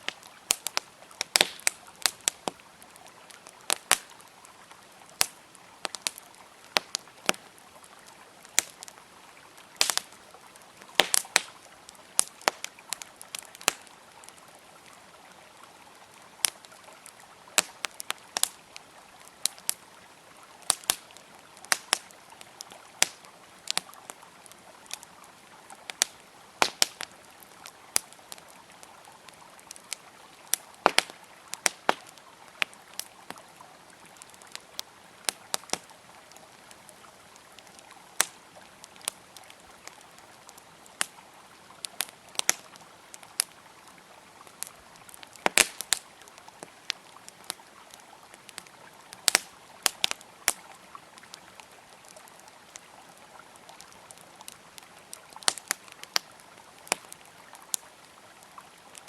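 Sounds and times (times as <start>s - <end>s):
campfire crackling and popping: 0.0s - 59.0s
flowing river: 0.0s - 59.0s.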